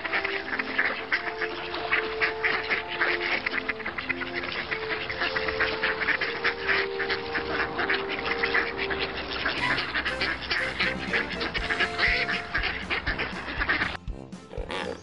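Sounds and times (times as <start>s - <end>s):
ducks quacking rapidly: 0.0s - 15.0s
soft background music: 0.0s - 15.0s.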